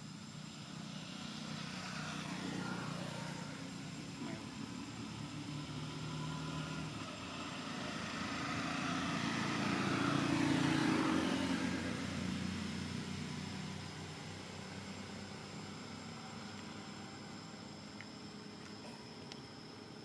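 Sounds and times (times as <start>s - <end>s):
engine humming passing by: 0.0s - 18.9s.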